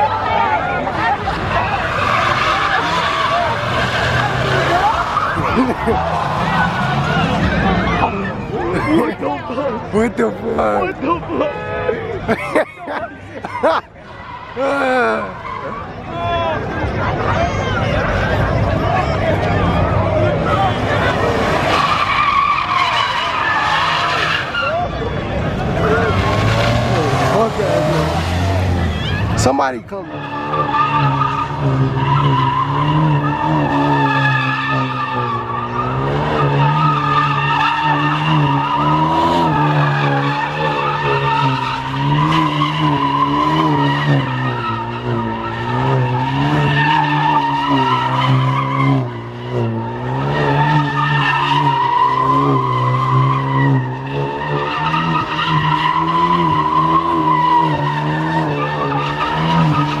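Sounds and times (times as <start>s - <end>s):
car engine at high revs: 0.0s - 11.2s, 16.7s - 60.0s
tire squeal: 0.0s - 60.0s.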